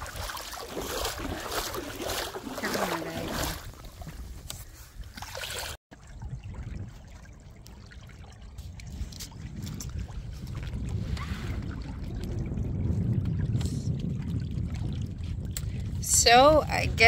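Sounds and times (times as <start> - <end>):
water splashing around a boat: 0.0 - 17.0
wind on microphone: 0.0 - 17.0.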